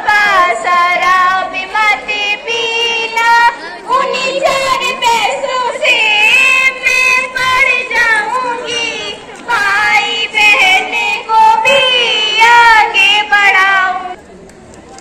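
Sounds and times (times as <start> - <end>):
girl singing: 0.0 - 14.2.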